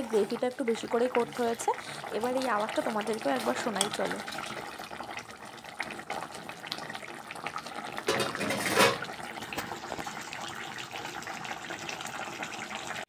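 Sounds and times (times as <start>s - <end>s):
curry bubbling and popping: 0.0s - 13.0s.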